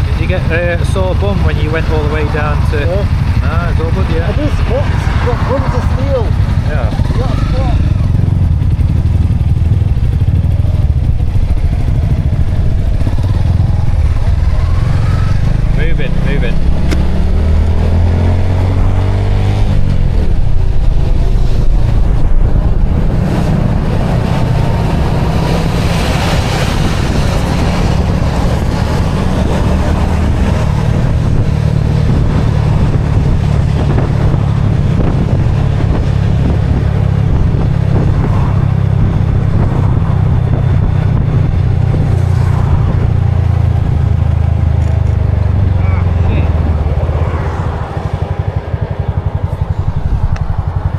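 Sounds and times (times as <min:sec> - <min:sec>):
small motorcycle engine: 0:00.0 - 0:50.9.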